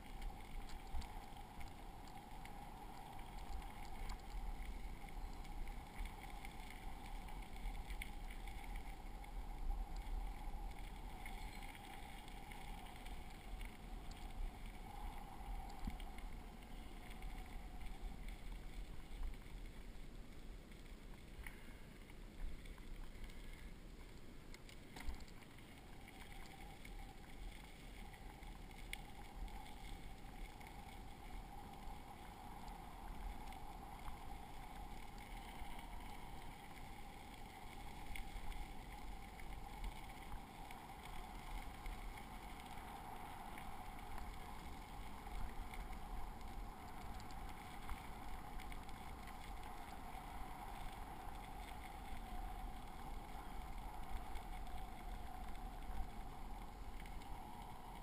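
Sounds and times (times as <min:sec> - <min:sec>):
faint steady hum: 0:00.0 - 0:58.0
small clicks: 0:00.0 - 0:58.0.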